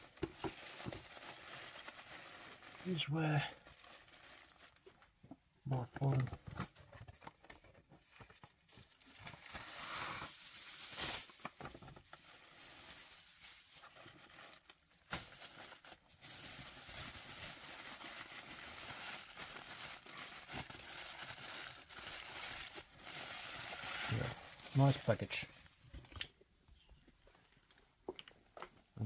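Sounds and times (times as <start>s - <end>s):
aluminium foil crinkling: 0.0s - 5.1s, 6.0s - 25.8s.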